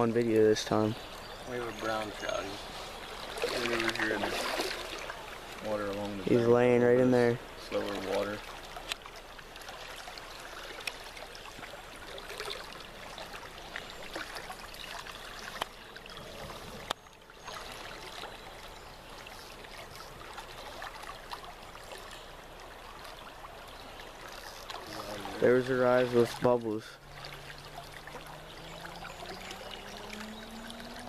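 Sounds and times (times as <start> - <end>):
creek water rushing and trickling: 0.0 - 31.0.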